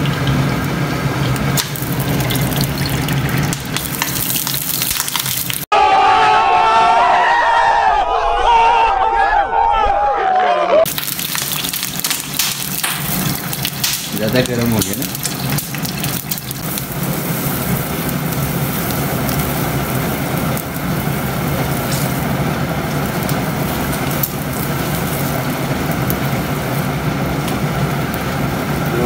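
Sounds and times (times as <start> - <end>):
flatbread sizzling in oil: 0.0 - 5.7, 10.9 - 28.9
gas burner flames rushing: 0.0 - 5.7, 10.9 - 29.0.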